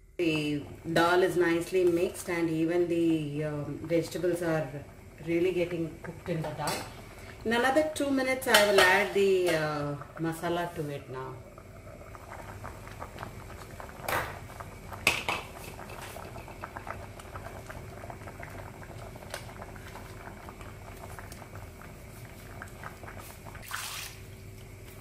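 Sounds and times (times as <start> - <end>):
pot boiling and bubbling: 0.0 - 25.0.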